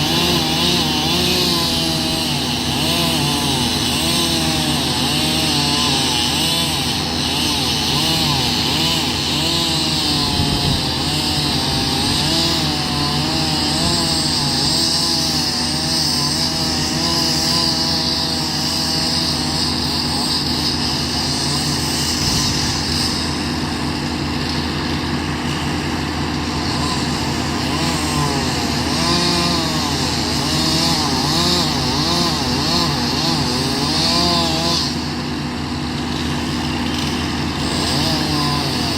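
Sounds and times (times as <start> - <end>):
chainsaw cutting tree: 0.0 - 38.9.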